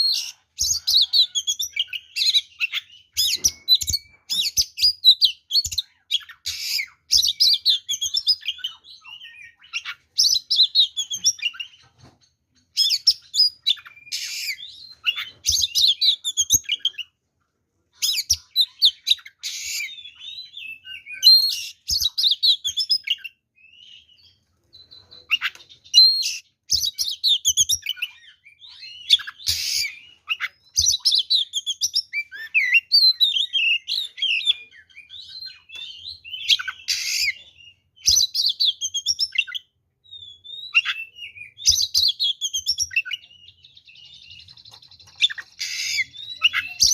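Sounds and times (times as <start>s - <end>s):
bird singing varied song: 0.0s - 17.2s, 17.9s - 46.9s.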